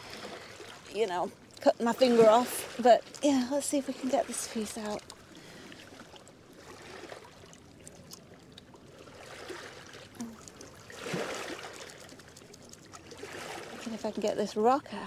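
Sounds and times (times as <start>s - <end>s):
waves lapping on stony shore: 0.0s - 15.0s.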